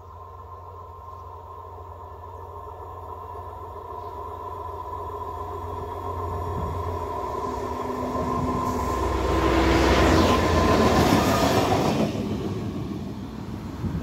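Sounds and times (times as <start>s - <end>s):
railcar wheels rushing on rail: 0.0s - 14.0s.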